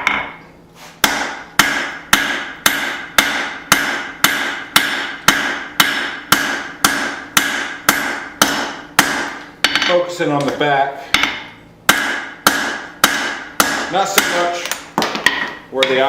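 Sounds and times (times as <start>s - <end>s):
hammer striking steel on anvil: 1.0s - 16.0s.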